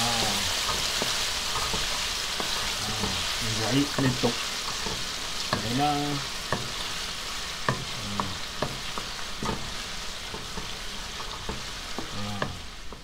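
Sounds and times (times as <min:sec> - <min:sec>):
fish sizzling in hot oil: 0:00.0 - 0:13.0
wooden spatula scraping wok: 0:00.0 - 0:13.0.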